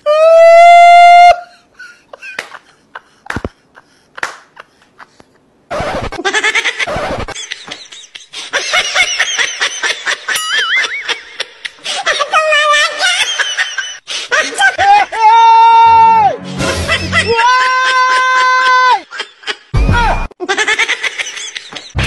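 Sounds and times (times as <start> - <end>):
laughter: 1.4 - 15.1, 16.7 - 19.8, 20.4 - 22.0.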